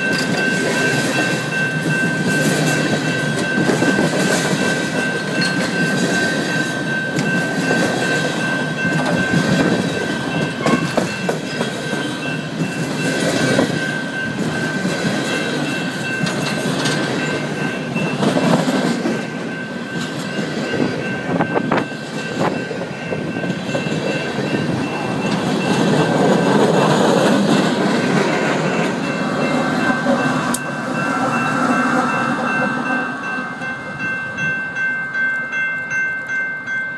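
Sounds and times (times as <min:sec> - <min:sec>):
train wheels clacking over rail joints: 0:00.0 - 0:32.7
crossing bell ringing: 0:00.0 - 0:36.9.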